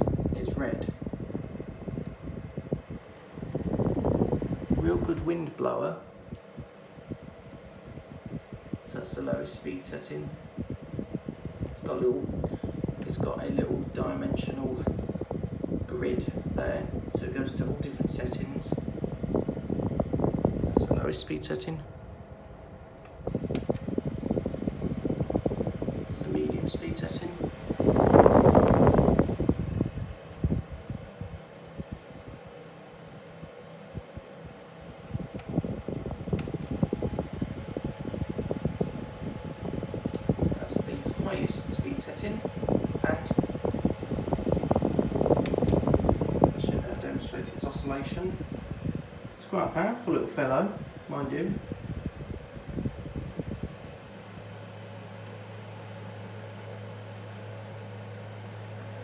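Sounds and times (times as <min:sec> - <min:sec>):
airflow buffeting microphone: 0:00.0 - 0:59.0
fan humming: 0:00.0 - 0:59.0.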